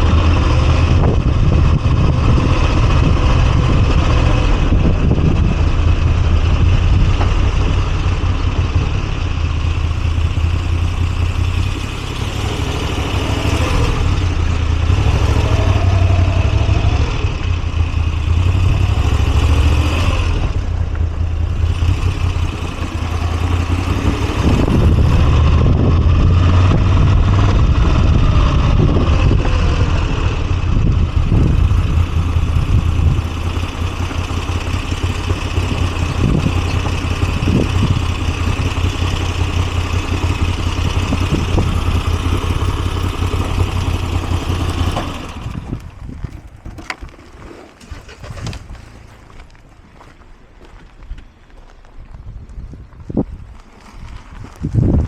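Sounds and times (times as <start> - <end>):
motorcycle engine running: 0.0 - 50.2.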